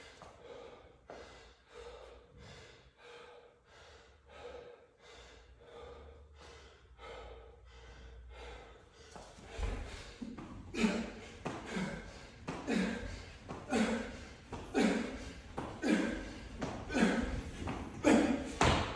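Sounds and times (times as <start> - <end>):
man breathing hard: 0.0 - 18.9.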